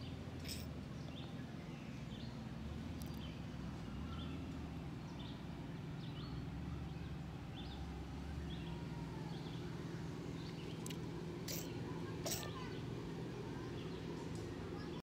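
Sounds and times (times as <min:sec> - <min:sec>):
birds chirping: 0:00.0 - 0:15.0
large vehicle engine running: 0:00.0 - 0:15.0.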